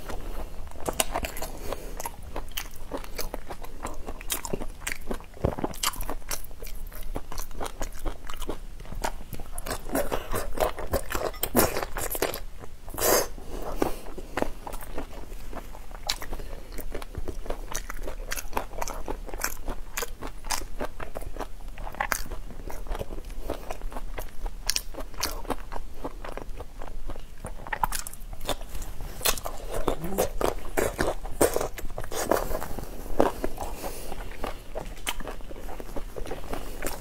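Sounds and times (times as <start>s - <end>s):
wet chewing and sucking: 0.0s - 37.0s.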